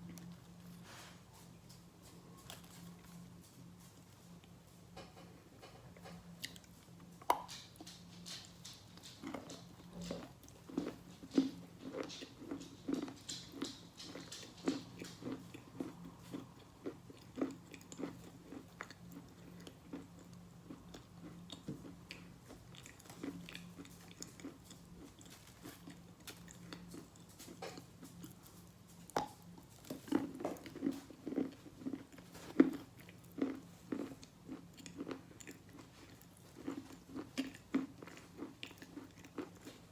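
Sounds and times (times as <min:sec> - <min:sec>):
chewing crunchy chalk: 0:06.0 - 0:39.9.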